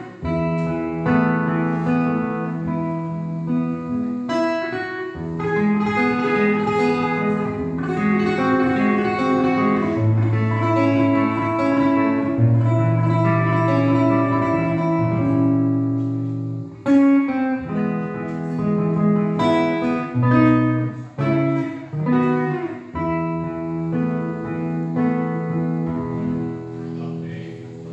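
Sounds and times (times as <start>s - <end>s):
classical guitar fingerstyle: 0.0s - 27.9s.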